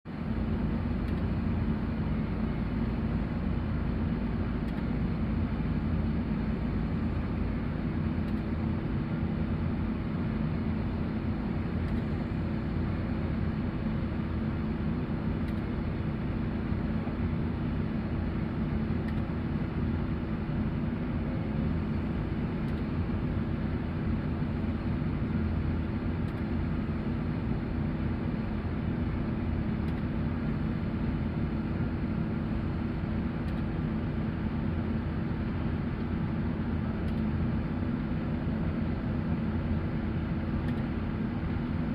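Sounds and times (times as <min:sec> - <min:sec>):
excavator diesel engine running: 0:00.1 - 0:41.9.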